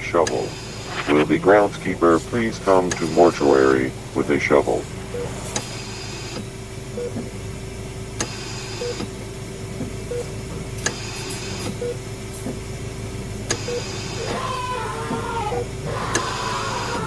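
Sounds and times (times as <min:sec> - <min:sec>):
constant electrical hum: 0:00.0 - 0:17.0.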